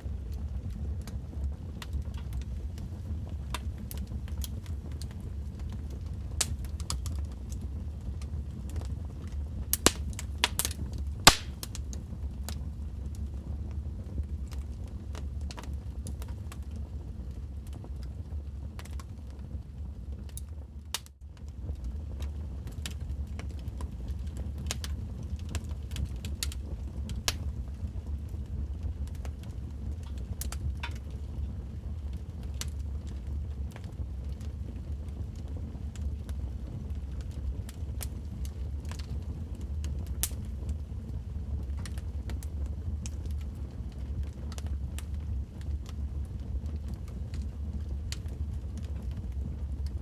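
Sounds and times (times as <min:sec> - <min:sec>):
low rumble of flames: 0:00.0 - 0:50.0
fire pops and snaps: 0:00.1 - 0:41.0, 0:41.6 - 0:50.0.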